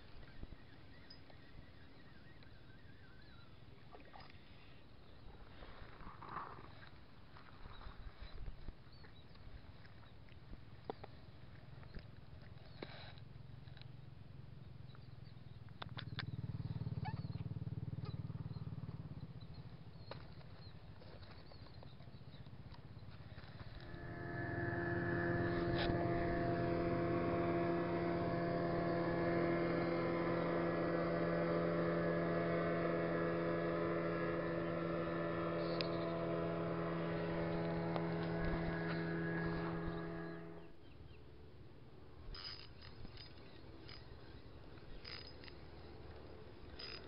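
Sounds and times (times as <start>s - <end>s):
motorboat engine running: 0.0s - 47.0s.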